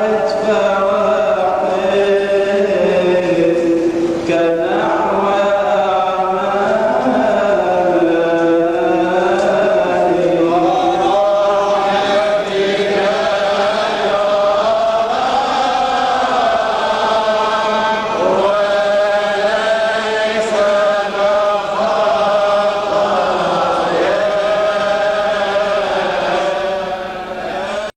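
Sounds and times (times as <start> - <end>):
person chanting held notes: 0.0 - 27.9.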